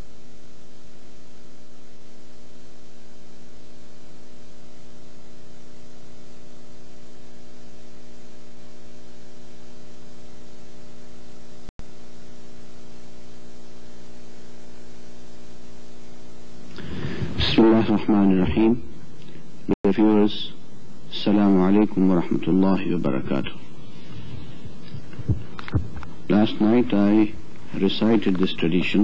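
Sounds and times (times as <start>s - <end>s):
electrical mains hum: 0.0s - 29.0s
tape hiss: 0.0s - 29.0s.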